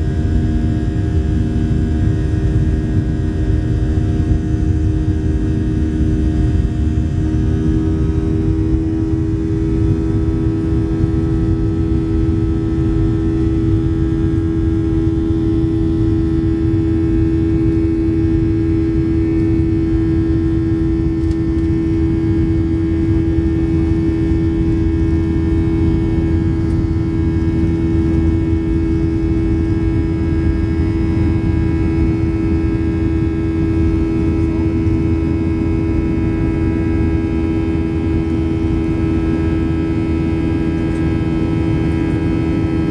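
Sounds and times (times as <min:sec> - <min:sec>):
jet engine cabin drone: 0:00.0 - 0:42.9.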